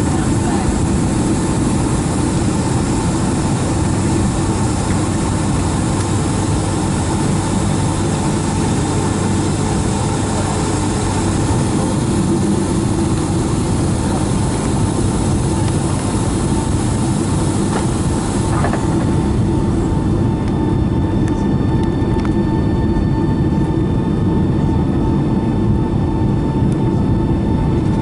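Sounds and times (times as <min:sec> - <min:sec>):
jet engines idling in cabin: 0:00.0 - 0:28.0.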